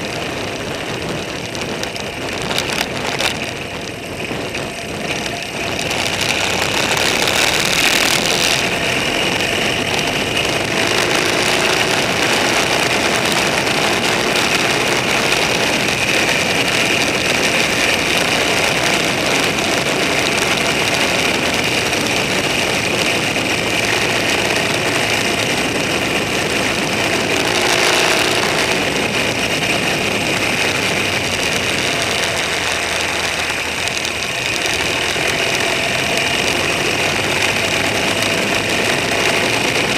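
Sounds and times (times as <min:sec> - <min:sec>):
vehicle engine running: 0:00.0 - 0:39.9
wind and road noise: 0:00.0 - 0:39.9.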